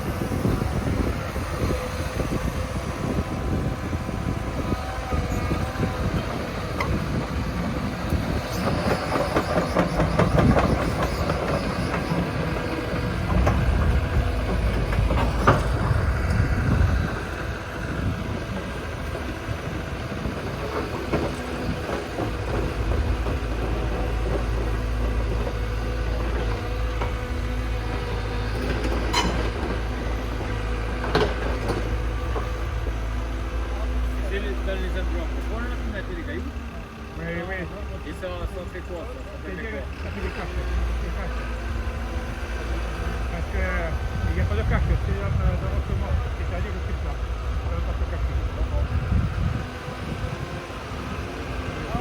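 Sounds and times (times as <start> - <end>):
diesel engine of heavy machinery: 0.0 - 52.0.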